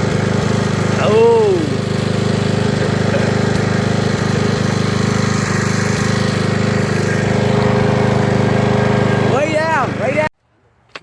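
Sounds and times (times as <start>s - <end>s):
lawn mower engine puttering: 0.0s - 10.3s.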